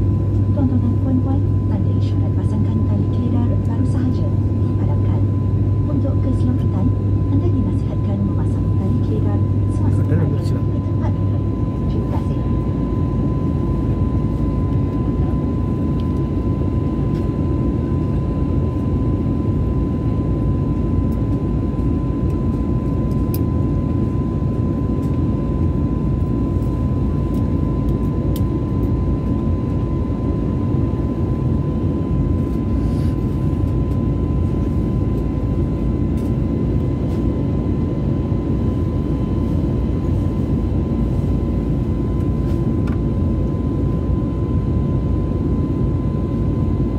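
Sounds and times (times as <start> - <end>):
airliner engines and airflow rumble: 0.0 - 46.9.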